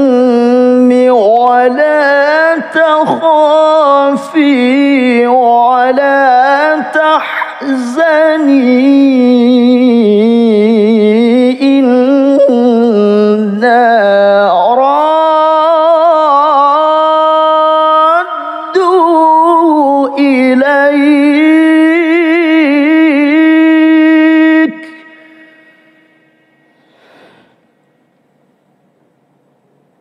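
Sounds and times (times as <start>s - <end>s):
man reciting melodically: 0.0s - 26.6s.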